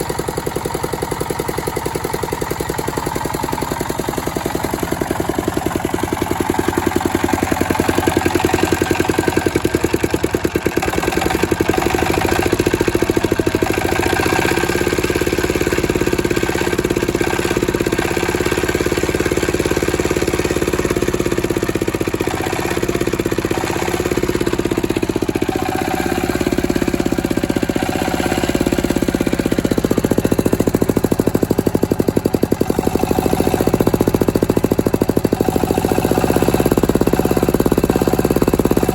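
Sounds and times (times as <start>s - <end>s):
single-cylinder diesel engine running: 0.0s - 38.9s.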